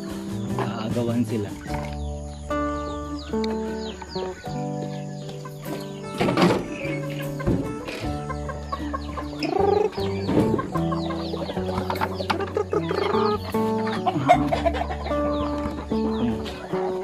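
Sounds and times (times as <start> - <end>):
chickens clucking: 0.0 - 17.0
music with long held notes: 0.0 - 17.0.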